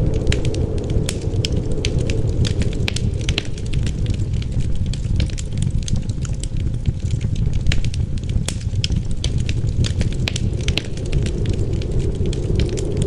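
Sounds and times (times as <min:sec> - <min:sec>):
low rumble of wind: 0:00.0 - 0:13.0
wood fire crackling and popping: 0:00.0 - 0:13.0.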